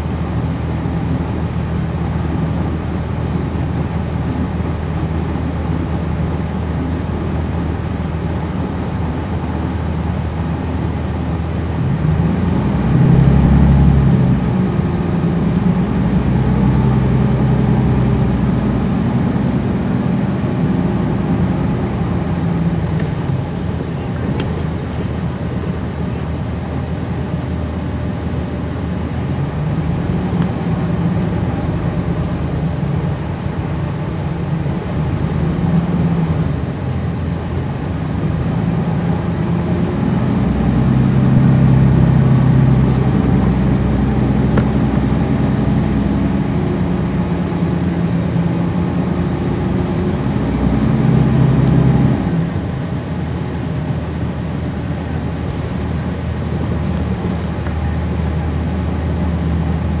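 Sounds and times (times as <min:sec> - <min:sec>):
bus diesel engine drone: 0:00.0 - 1:00.0.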